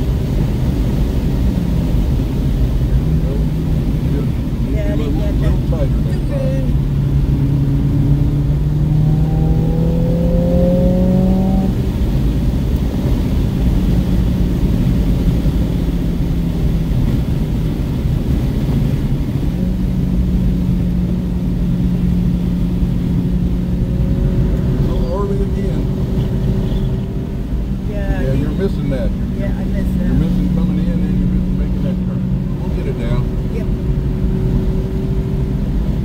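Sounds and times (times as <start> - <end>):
car engine revving: 0.0 - 36.0
road and wind rumble: 0.0 - 36.0.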